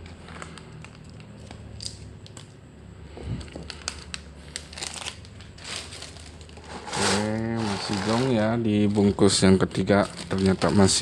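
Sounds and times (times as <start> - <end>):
plastic packet crinkling: 0.0 - 2.6, 3.3 - 11.0.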